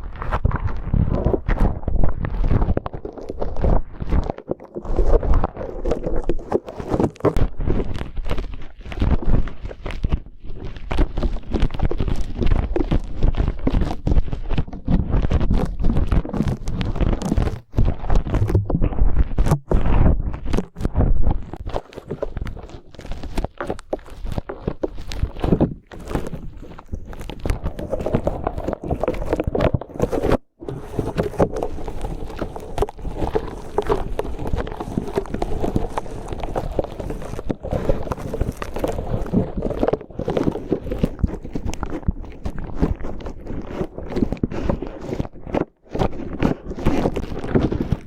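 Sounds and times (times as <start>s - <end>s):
slime squelching and crackling: 0.0s - 48.0s.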